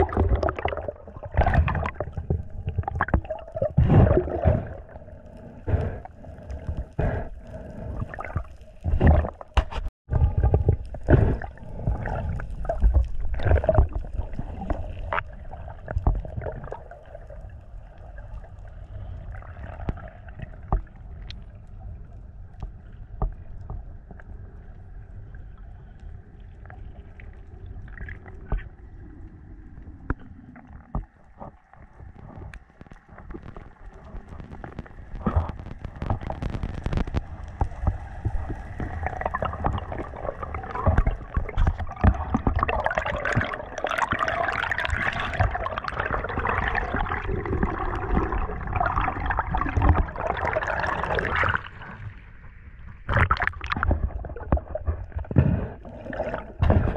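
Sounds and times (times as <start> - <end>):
small underwater clicks: 0.0 - 56.9
steady underwater wash: 0.0 - 56.9
underwater gurgles and knocks: 0.0 - 56.9.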